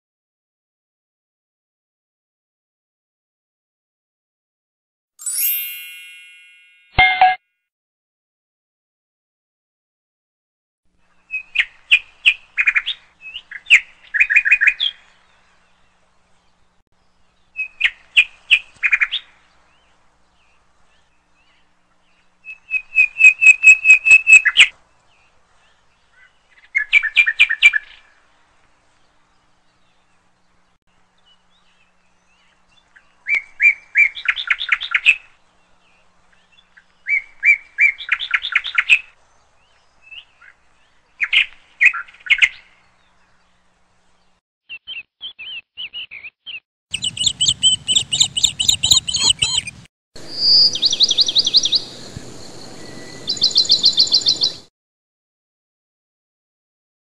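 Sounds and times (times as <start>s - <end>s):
songbird chirps and trills: 5.2s - 7.4s, 11.0s - 54.7s.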